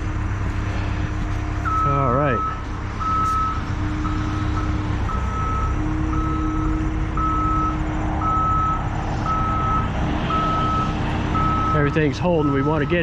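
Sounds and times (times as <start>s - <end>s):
diesel engine running: 0.0s - 13.0s
backup alarm beeping: 1.6s - 13.0s.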